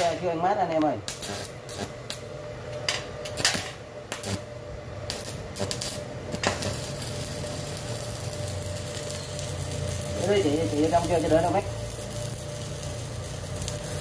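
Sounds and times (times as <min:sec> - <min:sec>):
welding arc cracking and hissing: 0:00.0 - 0:02.3, 0:03.2 - 0:14.0.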